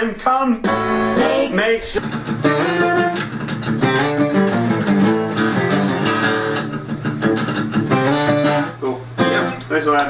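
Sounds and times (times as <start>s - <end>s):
guitar strumming chords: 0.6s - 10.0s.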